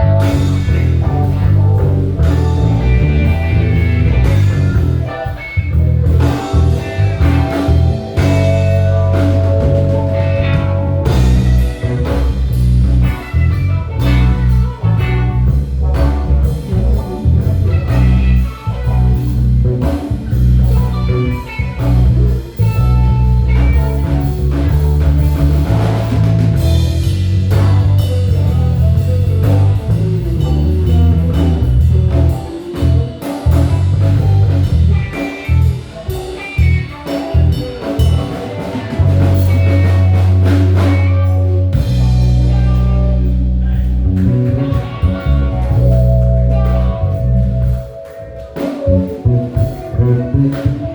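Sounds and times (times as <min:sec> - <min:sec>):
electric guitar: 0:00.0 - 0:50.9
heavy bass line: 0:00.0 - 0:50.9
live band playing blues-jazz: 0:00.0 - 0:50.9.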